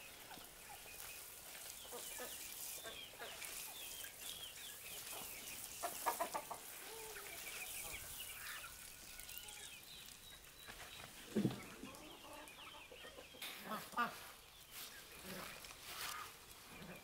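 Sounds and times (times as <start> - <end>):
chickens clucking: 0.0 - 17.0
chicks peeping: 0.0 - 17.0.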